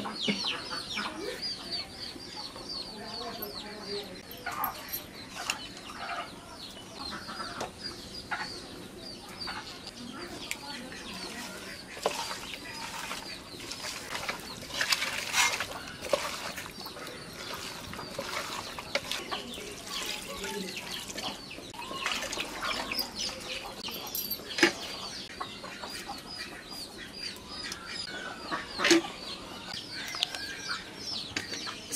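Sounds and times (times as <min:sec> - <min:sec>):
chickens clucking: 0:00.0 - 0:31.9.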